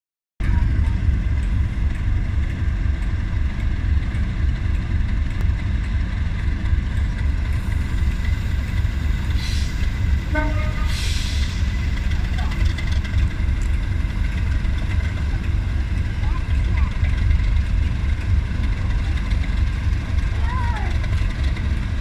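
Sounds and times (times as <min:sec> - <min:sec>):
diesel locomotive engines rumbling: 0:00.4 - 0:22.0.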